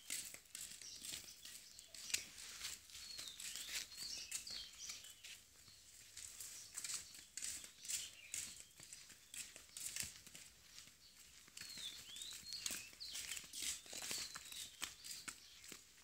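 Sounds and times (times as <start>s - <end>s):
footsteps and sandal scuffs on concrete: 0.0s - 16.0s
bird chirps: 0.8s - 10.0s, 11.1s - 15.8s.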